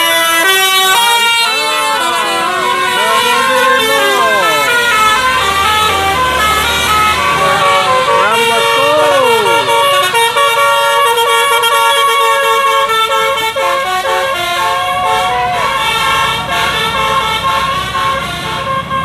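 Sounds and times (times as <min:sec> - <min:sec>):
musical bus horn melody: 0:00.0 - 0:19.0.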